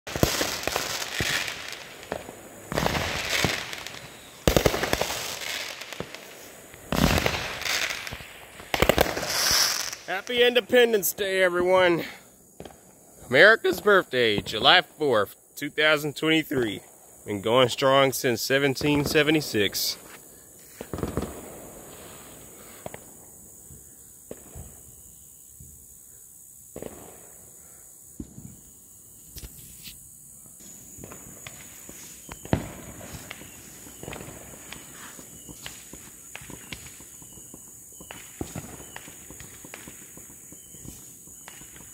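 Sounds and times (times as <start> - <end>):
crackling fireworks pops: 0.1 - 14.9, 18.7 - 25.8, 26.7 - 27.4, 28.1 - 41.9
fireworks bangs: 0.1 - 25.8, 26.7 - 29.7, 30.6 - 41.9.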